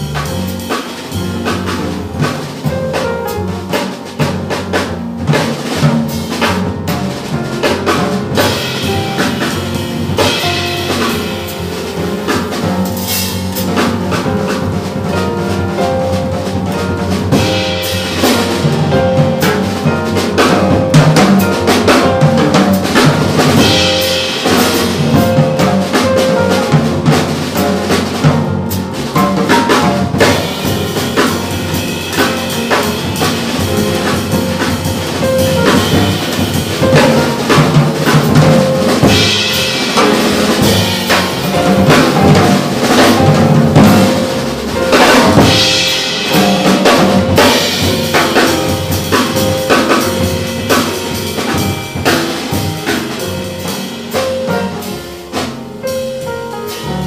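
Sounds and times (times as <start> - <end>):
acoustic piano: 0.0 - 57.0
busy jazz drumming: 0.0 - 57.0
double bass: 0.0 - 57.0.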